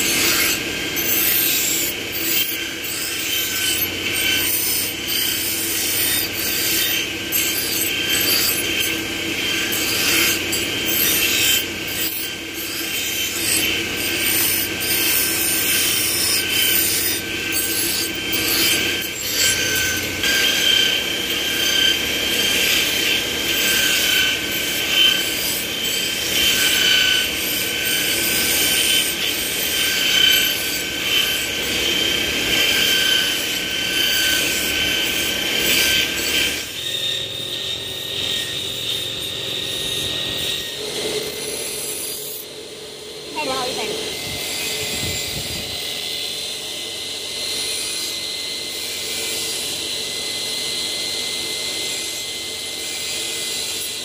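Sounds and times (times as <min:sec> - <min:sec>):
metal grinding on abrasive wheel: 0:00.0 - 0:42.6, 0:43.3 - 0:46.1
grinding wheel whine: 0:00.0 - 0:54.0.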